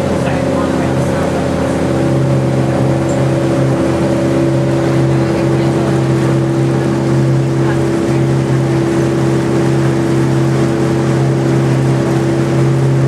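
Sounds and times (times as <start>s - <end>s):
boat engine humming: 0.0s - 13.0s
water noise: 0.0s - 13.0s.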